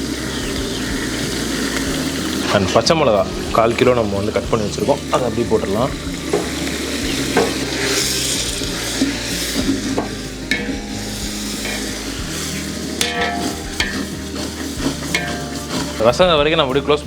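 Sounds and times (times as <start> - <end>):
utensil clinking against metal pot: 0.0 - 16.3
spoon stirring sizzling food in pot: 0.0 - 17.0.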